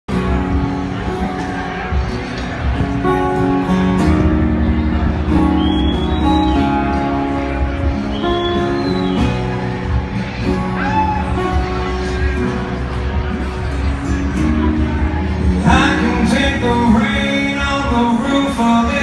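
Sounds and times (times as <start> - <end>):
amplified acoustic guitar picking: 0.1 - 19.0.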